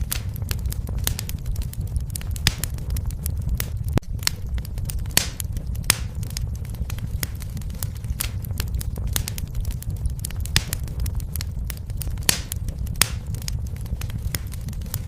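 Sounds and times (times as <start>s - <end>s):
fire low rumble: 0.0s - 15.0s
wood fire crackling: 0.0s - 15.0s.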